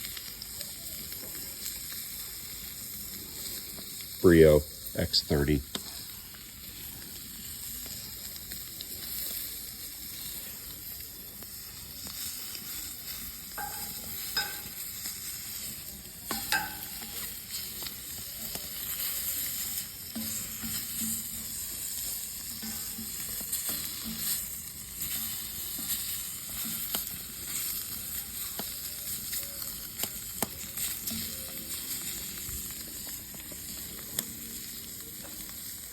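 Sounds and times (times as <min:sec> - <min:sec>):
fire popping: 0:00.0 - 0:35.9
scallops sizzling over fire: 0:00.0 - 0:35.9.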